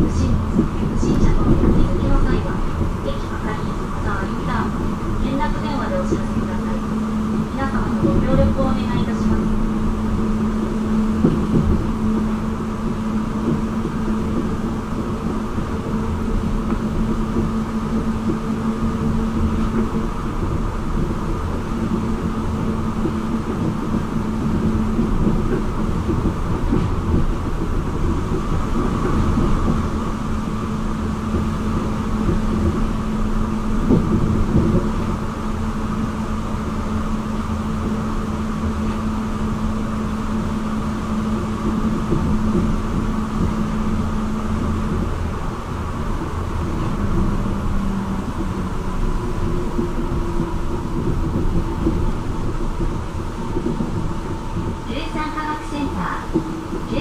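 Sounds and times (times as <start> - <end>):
passing train: 0.0 - 57.0
train tyres rumbling: 0.0 - 57.0.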